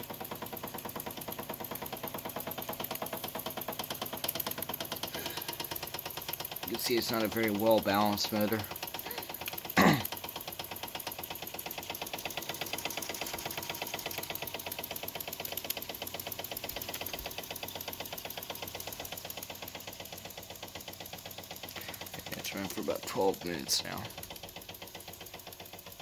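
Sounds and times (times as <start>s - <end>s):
toy steam engine chuffing: 0.0s - 26.0s.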